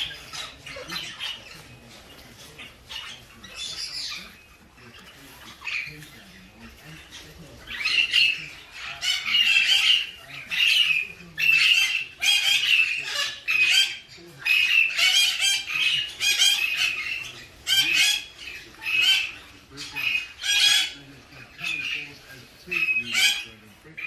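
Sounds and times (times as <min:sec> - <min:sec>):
cockatoo calling: 0:00.0 - 0:24.0.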